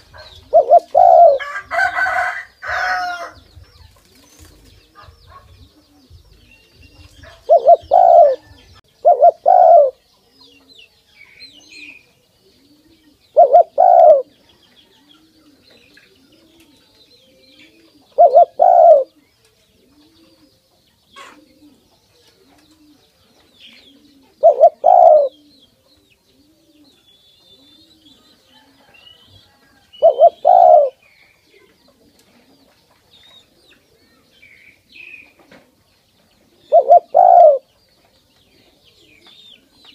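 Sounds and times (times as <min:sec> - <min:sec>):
dove cooing: 0:00.0 - 0:10.8, 0:11.5 - 0:32.8, 0:33.4 - 0:37.8, 0:38.5 - 0:39.9
small birds chirping: 0:00.0 - 0:39.9.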